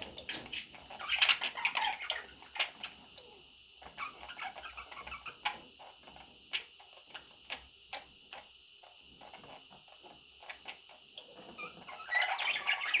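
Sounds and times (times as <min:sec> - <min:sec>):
baby budgies chirping: 0:00.0 - 0:08.4, 0:09.2 - 0:13.0.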